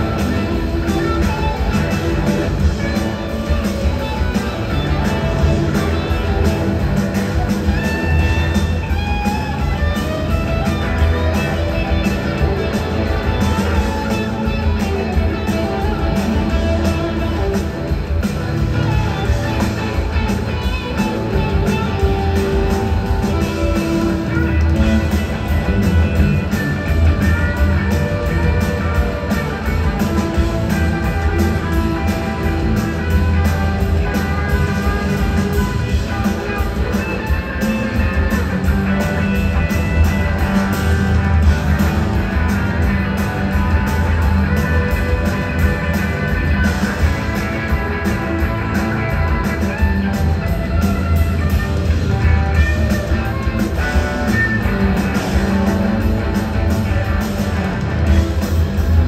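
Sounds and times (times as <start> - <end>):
rock and roll band playing: 0.0 - 59.0.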